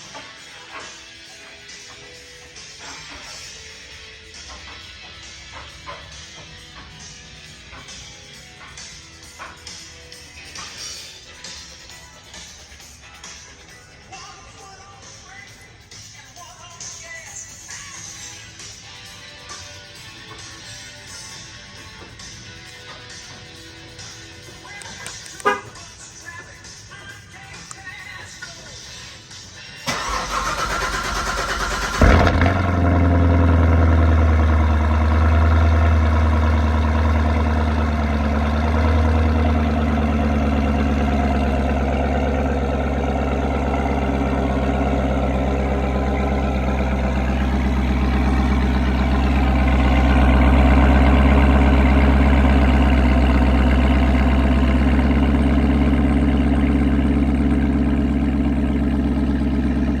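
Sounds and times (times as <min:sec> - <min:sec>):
car engine idling: 0:00.0 - 1:00.0.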